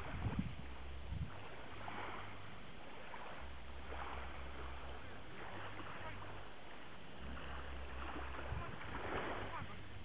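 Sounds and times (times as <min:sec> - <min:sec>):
waves lapping on pebbles: 0:00.0 - 0:10.0
wind rumble on microphone: 0:00.0 - 0:10.0.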